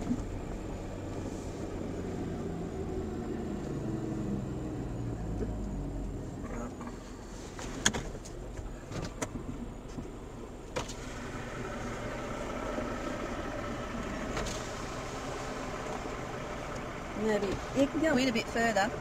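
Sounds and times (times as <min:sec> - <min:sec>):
steady engine tone: 0:00.0 - 0:07.5, 0:09.6 - 0:19.0
vehicle road and engine noise: 0:00.0 - 0:19.0.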